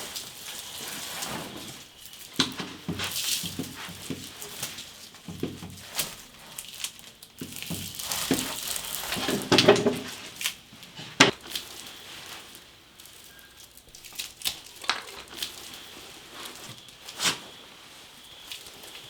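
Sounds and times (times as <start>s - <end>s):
objects being handled: 0.0s - 19.0s.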